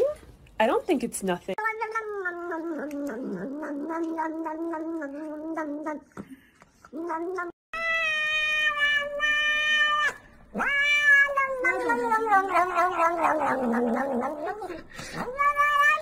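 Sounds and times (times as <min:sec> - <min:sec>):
cat meowing: 0:01.6 - 0:06.0, 0:06.9 - 0:16.0.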